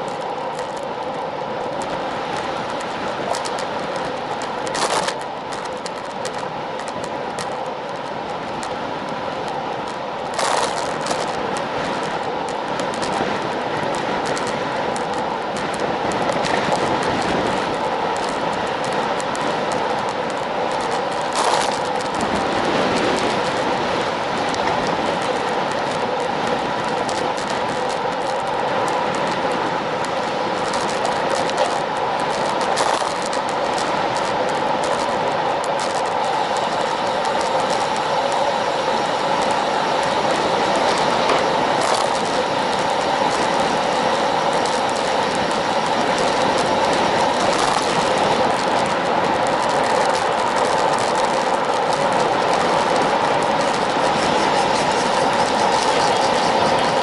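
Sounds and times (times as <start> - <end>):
light ticks and rattles: 0.0 - 57.0
small clicks: 0.0 - 57.0
tyre and road noise: 0.0 - 57.0
wind rushing over camera: 0.0 - 57.0.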